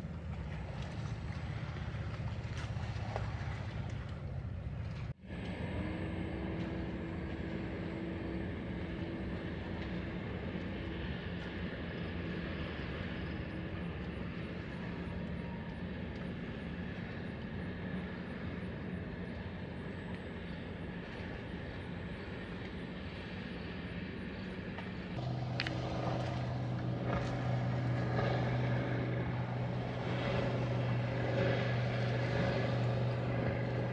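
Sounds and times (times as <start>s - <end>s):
low engine drone: 0.0s - 33.9s
outdoor background noise: 0.0s - 33.9s.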